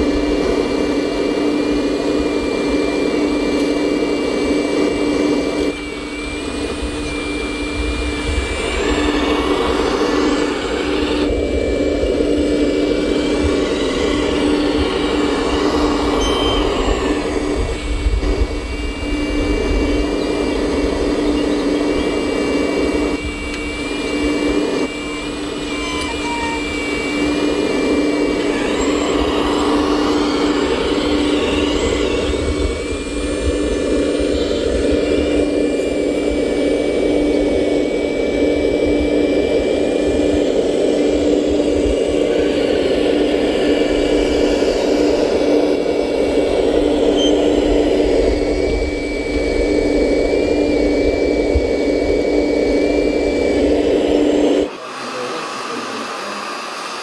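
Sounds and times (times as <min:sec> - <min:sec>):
high whine changing pitch: 0:00.0 - 0:57.0
hydraulic pump whirring: 0:00.0 - 0:57.0.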